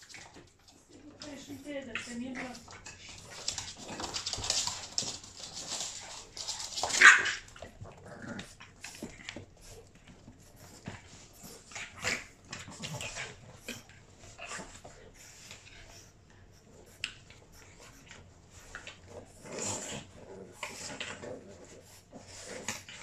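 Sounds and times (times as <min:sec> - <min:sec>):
dogs scuffling: 0:00.0 - 0:23.0
small dog sound: 0:00.0 - 0:23.0.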